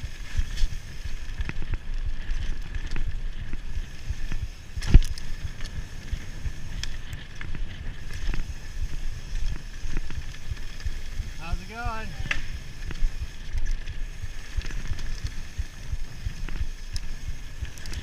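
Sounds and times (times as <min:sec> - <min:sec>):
bike rattles and knocks: 0:00.0 - 0:18.0.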